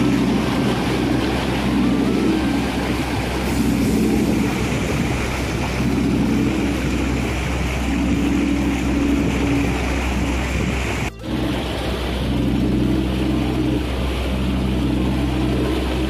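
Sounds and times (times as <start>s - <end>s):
churning water rushing: 0.0s - 16.0s
motor boat engine drone: 0.0s - 16.0s
wind buffeting microphone: 0.0s - 16.0s.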